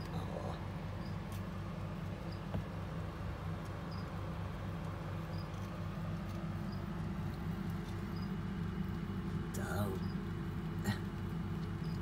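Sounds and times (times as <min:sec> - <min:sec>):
low pulsing hum: 0:00.0 - 0:12.0.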